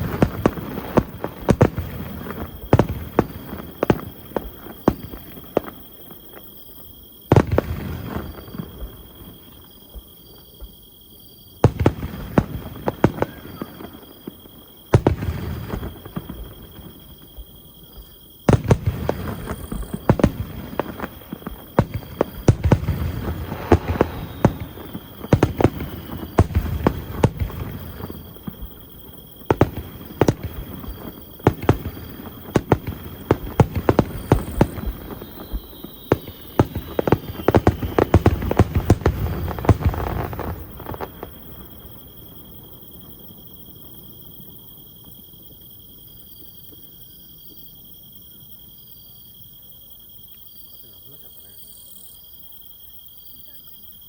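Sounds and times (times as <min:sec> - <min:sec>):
fireworks crackling: 0:00.0 - 0:10.4, 0:11.6 - 0:47.0
fireworks bursting with bangs: 0:00.0 - 0:10.9, 0:11.6 - 0:45.8.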